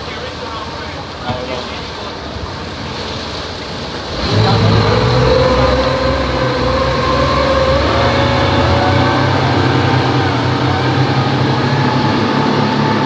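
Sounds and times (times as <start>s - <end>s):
outboard motor running: 0.0s - 13.0s
water rushing: 0.0s - 13.0s.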